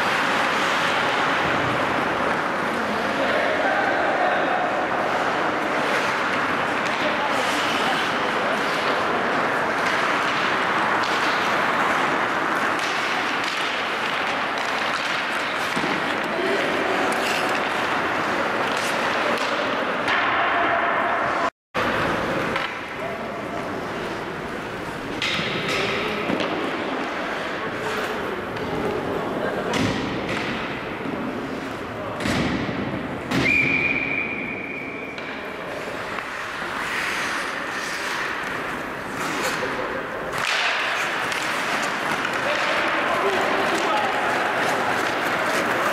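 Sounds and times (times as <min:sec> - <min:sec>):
ice rink din: 0:00.0 - 0:45.9
skates and sticks scraping ice: 0:00.0 - 0:45.9.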